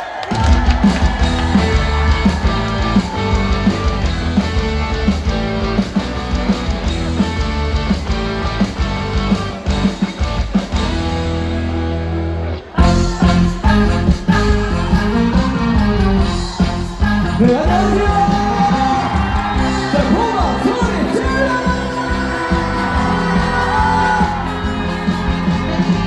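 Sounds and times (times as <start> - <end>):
drums bass and guitar music: 0.3 - 26.0.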